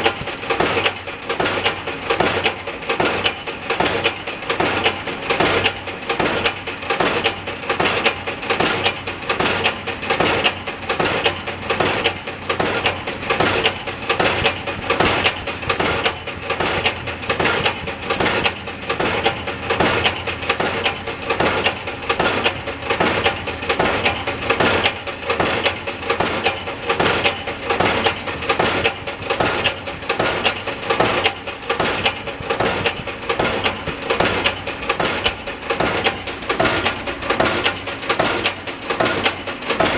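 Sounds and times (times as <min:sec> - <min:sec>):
pile-driving hammer blows: 0:00.0 - 0:39.9.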